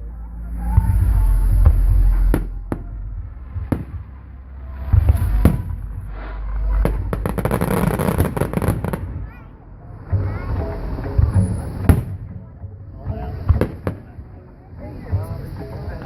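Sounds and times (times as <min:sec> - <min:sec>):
fireworks crackling: 0:00.6 - 0:16.0.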